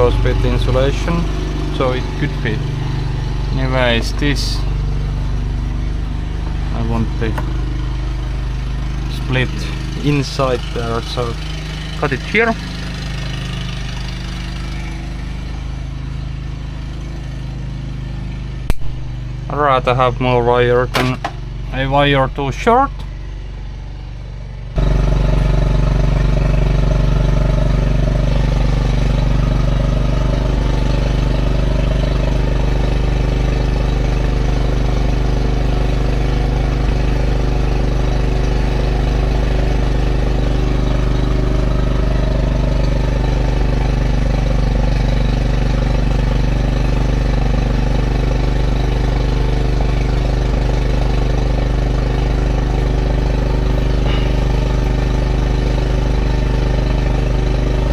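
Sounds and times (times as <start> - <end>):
large engine idling: 0.0 - 57.9.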